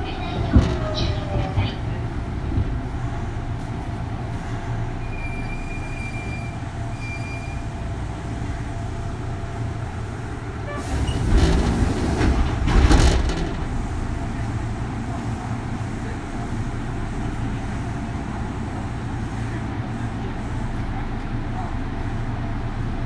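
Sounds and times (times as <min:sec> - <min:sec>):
surge of train noise: 0:00.0 - 0:23.0
train wheels and motors rumbling: 0:00.0 - 0:23.0.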